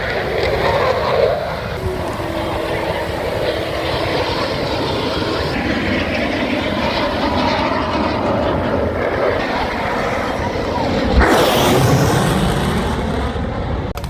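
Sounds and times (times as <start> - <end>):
faint wavering whine: 0.0 - 13.9
aircraft engine rushing: 0.0 - 14.0.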